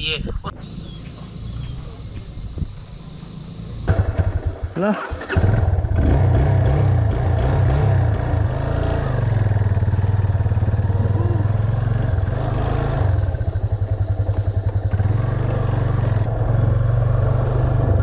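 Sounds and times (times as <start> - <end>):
motorcycle engine at low revs: 0.6 - 18.0.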